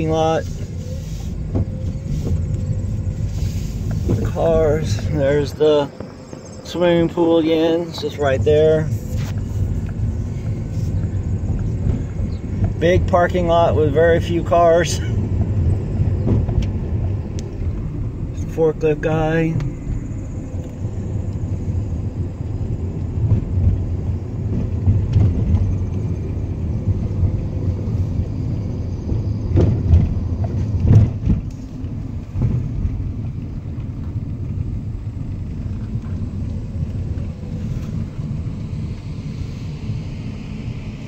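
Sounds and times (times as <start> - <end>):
car engine and tyres rumbling: 0.0 - 41.0.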